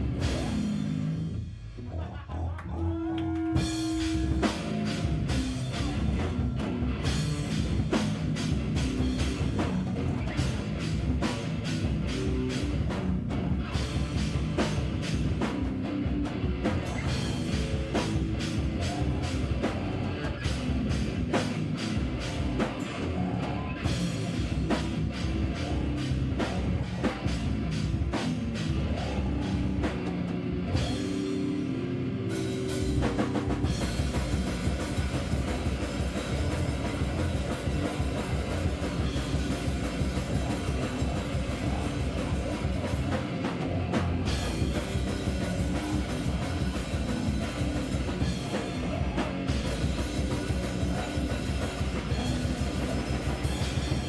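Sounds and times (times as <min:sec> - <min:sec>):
drum kit rapid beat: 0:00.0 - 0:01.5, 0:03.4 - 0:54.0
live heavy rock band: 0:00.0 - 0:02.3, 0:03.0 - 0:54.0.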